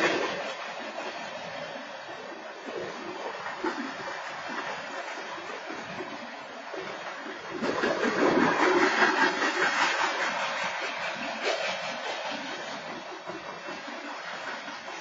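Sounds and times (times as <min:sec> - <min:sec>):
freight train wheels rushing on rails: 0:00.0 - 0:15.0.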